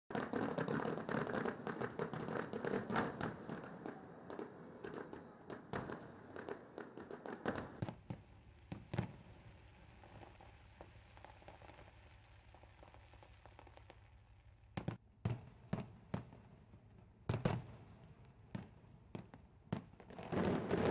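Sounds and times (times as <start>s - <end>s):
fireworks crackling and banging: 0.1s - 20.9s.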